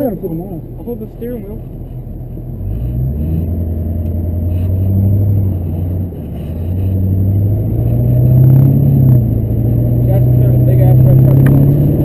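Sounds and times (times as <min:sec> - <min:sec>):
diesel pickup engine under throttle: 0:00.0 - 0:12.0.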